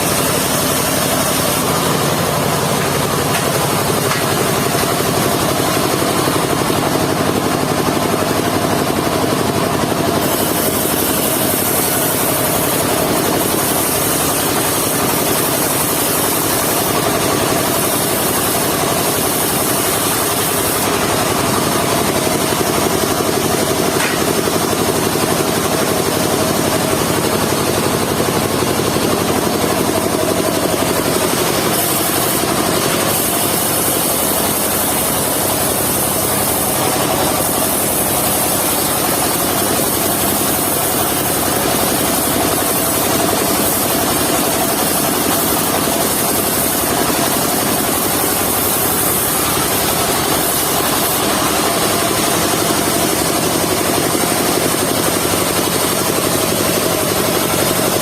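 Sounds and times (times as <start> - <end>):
sawmill sawing log: 0.0 - 58.0.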